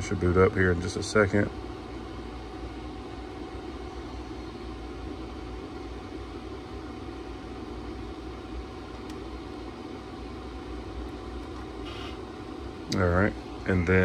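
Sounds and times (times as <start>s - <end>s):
small cooling fans humming: 0.0s - 14.0s.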